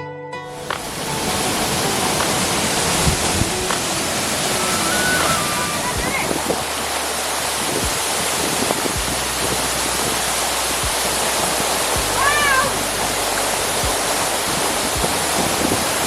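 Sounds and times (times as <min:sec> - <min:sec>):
waterfall rushing: 0:00.5 - 0:16.0.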